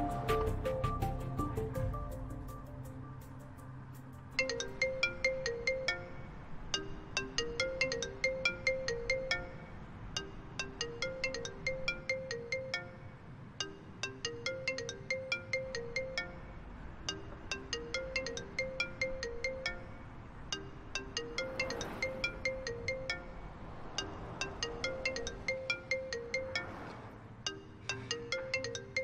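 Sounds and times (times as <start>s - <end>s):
phone ringtone: 0.0s - 29.0s.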